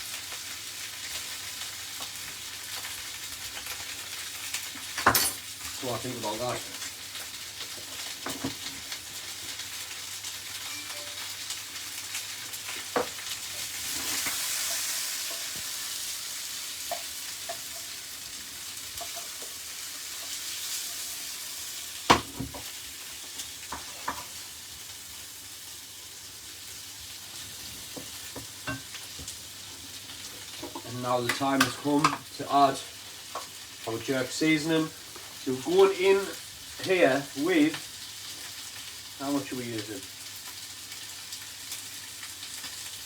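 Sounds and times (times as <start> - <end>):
food sizzling in a pan: 0.0 - 43.0.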